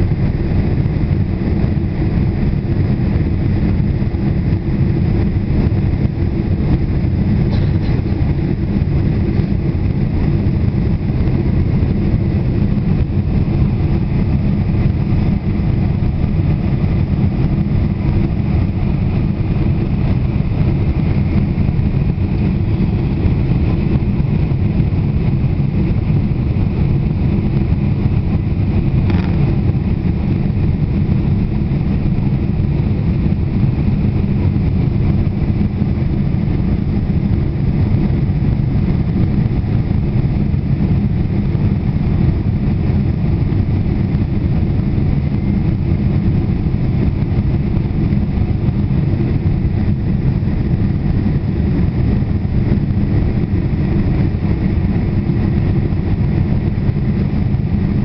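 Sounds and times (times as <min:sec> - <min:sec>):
jet engines and rushing air: 0:00.0 - 0:58.0.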